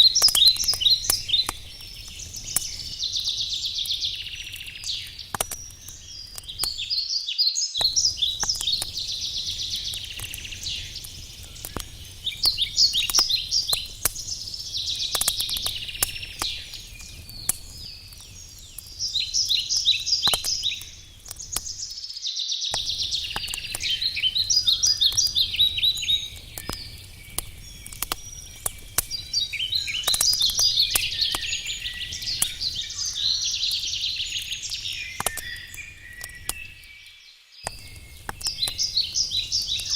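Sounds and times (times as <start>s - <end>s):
wood fire crackling and popping: 0.0s - 7.1s, 7.8s - 22.0s, 22.7s - 39.9s
songbirds trilling: 0.0s - 39.9s.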